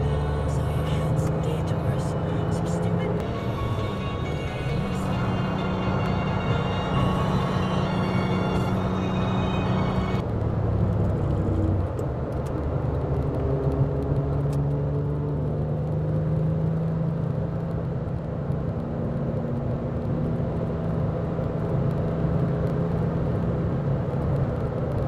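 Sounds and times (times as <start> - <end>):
car engine drone: 0.0 - 25.0
tyre and road noise: 0.0 - 25.0.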